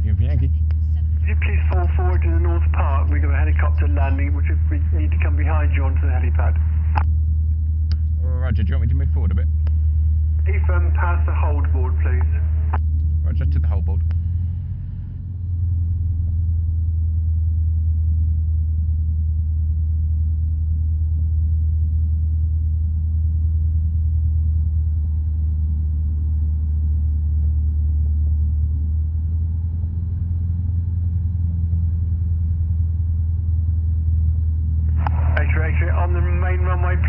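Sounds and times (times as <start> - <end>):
light aircraft engine droning: 0.0 - 37.0.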